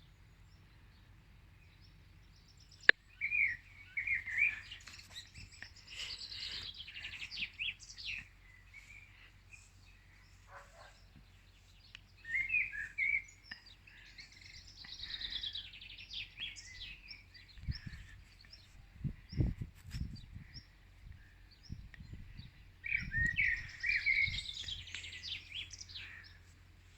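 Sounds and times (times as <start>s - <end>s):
birds chirping: 0.0s - 26.9s
songbirds trilling: 0.0s - 26.9s.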